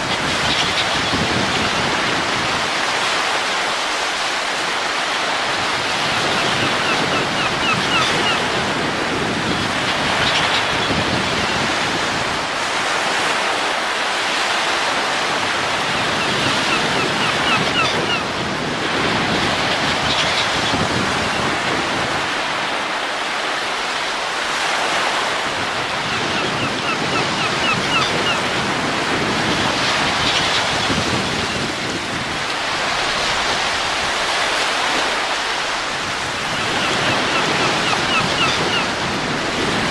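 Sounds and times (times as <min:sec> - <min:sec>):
wind rushing in gusts: 0:00.0 - 0:39.9.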